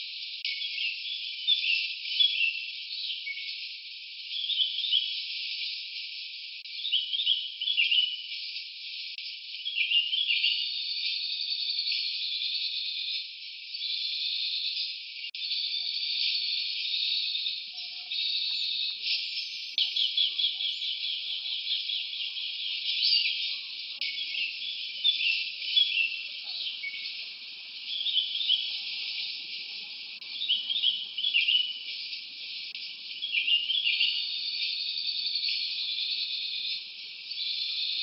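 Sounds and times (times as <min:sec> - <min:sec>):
bird-like chirps and whistles: 0:00.0 - 0:38.0
insect chorus with trills: 0:00.0 - 0:38.0.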